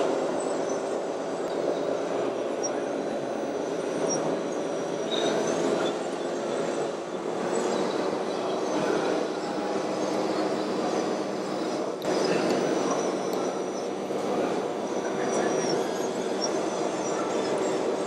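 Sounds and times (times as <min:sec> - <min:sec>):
faint high-pitched whines: 0:00.3 - 0:18.0.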